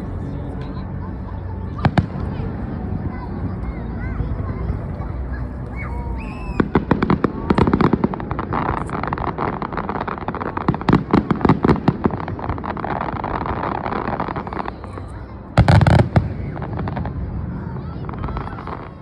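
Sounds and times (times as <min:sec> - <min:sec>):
fireworks crackling: 0:01.7 - 0:19.0.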